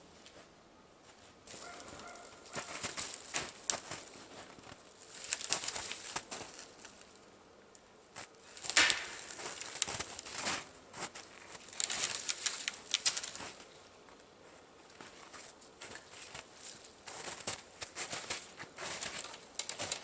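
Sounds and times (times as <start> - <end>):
footsteps crunching in snow: 0.3 - 7.1, 8.1 - 13.7, 14.4 - 20.0
spruce boughs rustling: 1.1 - 7.2, 8.1 - 20.0.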